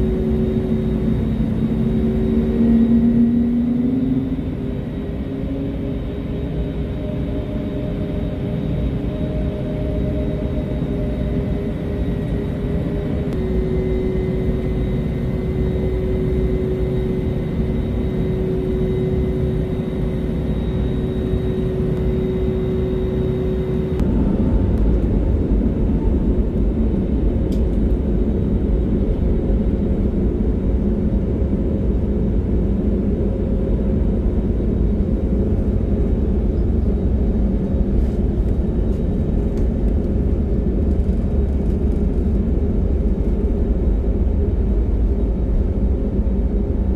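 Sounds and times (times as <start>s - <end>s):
jet engine rumble: 0.0s - 46.9s.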